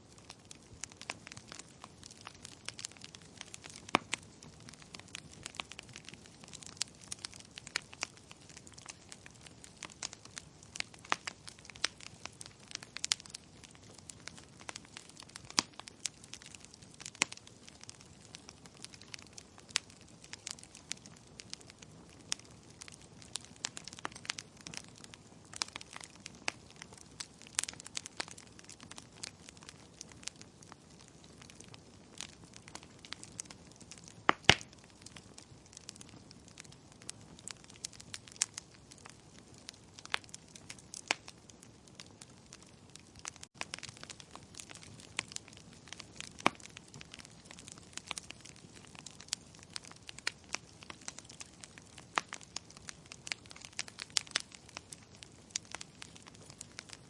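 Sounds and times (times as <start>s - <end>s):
soft hiss of flames: 0.0s - 57.0s
wood fire crackling and popping: 0.0s - 57.0s.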